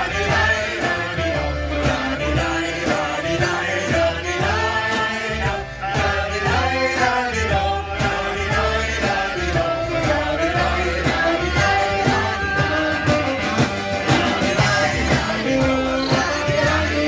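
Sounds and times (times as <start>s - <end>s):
live band playing upbeat song: 0.0s - 17.0s.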